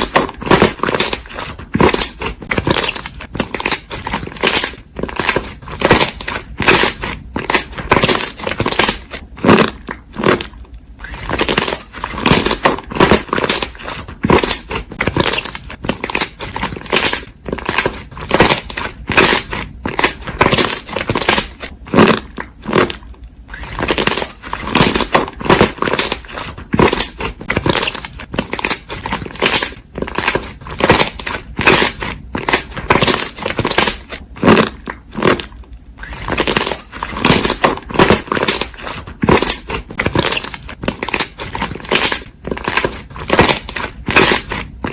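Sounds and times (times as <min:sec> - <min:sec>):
slime squishing by hand: 0:00.0 - 0:44.9.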